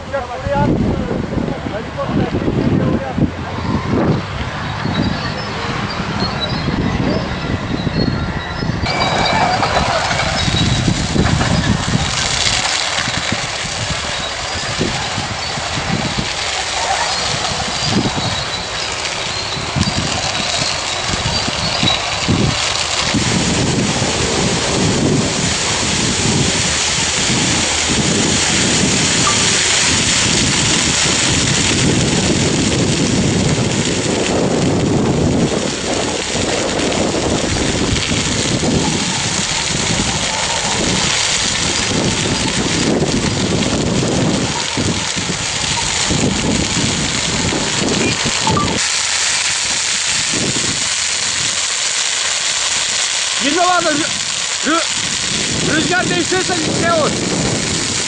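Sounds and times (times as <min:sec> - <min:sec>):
wildfire burning hiss: 0:00.0 - 0:07.8, 0:08.8 - 0:58.0
wind buffeting microphone: 0:00.0 - 0:58.0.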